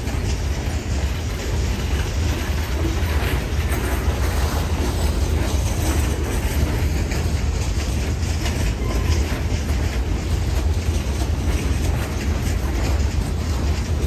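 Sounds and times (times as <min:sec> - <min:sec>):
rumble of train wheels on rail: 0:00.0 - 0:14.0
wheel clicks over rail joints: 0:00.0 - 0:14.0.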